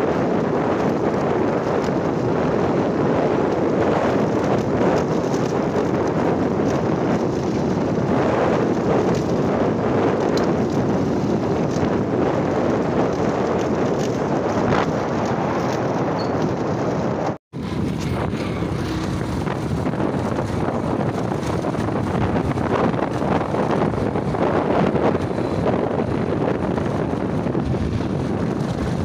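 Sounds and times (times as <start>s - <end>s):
motorcycle road noise: 0.0s - 29.0s
wind buffeting microphone: 0.0s - 29.0s.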